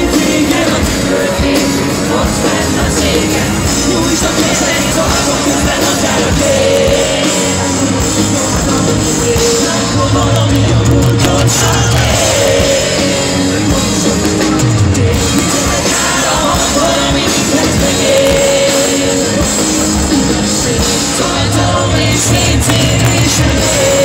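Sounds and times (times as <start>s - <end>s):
live rock band: 0.0s - 24.0s
person singing: 0.0s - 24.0s.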